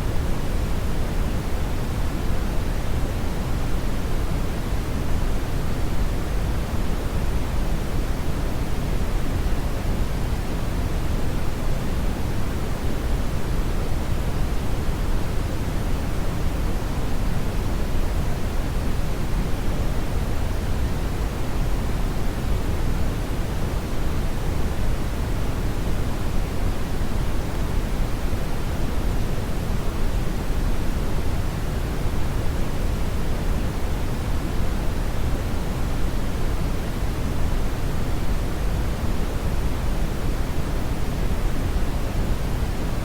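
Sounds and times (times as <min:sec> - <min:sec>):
brown noise hiss: 0:00.0 - 0:43.0.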